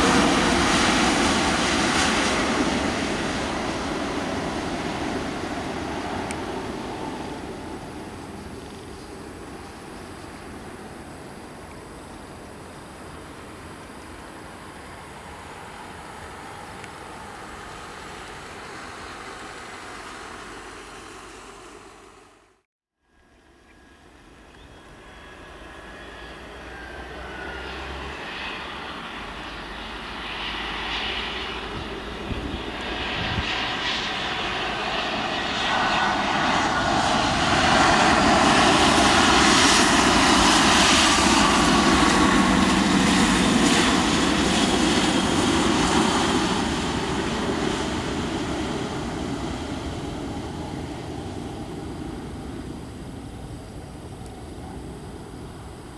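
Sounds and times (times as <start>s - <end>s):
distant jet noise: 0.0s - 22.6s, 23.3s - 55.9s
jet airliner landing: 0.0s - 22.6s, 23.2s - 55.9s
faint engine whine: 0.0s - 55.9s.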